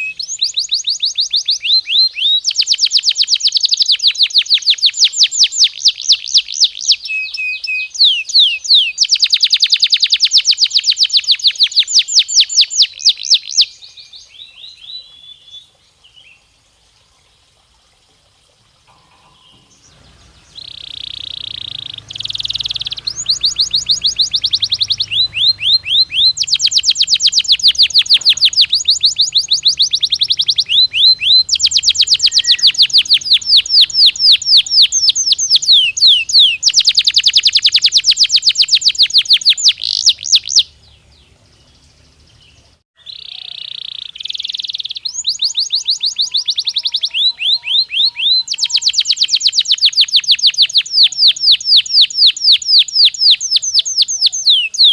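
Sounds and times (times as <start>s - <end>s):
canary singing trills: 0.0s - 17.4s, 18.9s - 54.9s.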